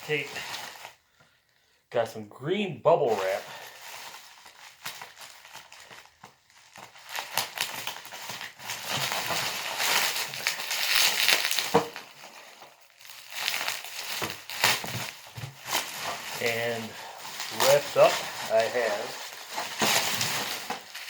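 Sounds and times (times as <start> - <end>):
bubble wrap crinkling: 0.0 - 1.7, 3.0 - 21.0.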